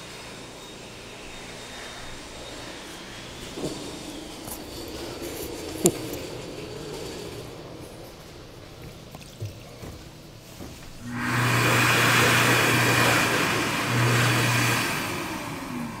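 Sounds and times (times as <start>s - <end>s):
hand dryer blowing: 0.0s - 16.0s.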